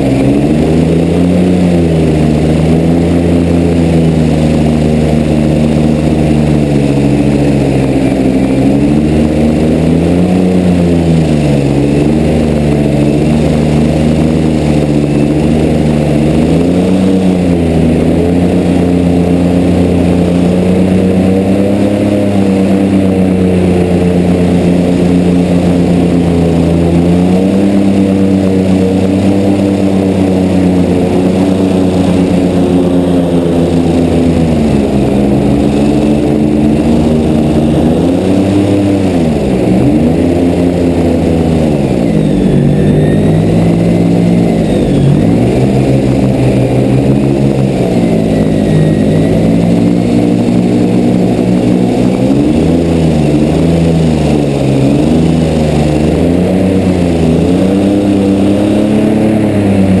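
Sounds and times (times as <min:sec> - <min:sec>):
airboat engine and propeller: 0:00.0 - 1:00.0.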